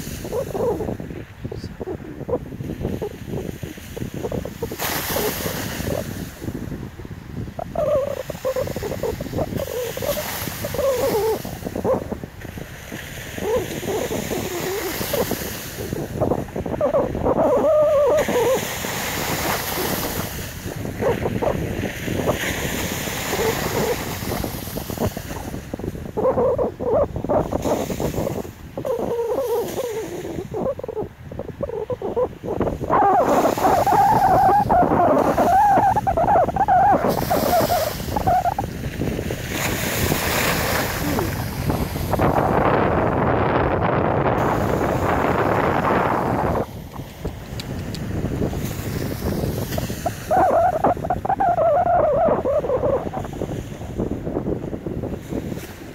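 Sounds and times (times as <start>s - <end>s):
slushy water washing ashore: 0.0s - 55.9s
wind noise on microphone: 0.0s - 55.9s.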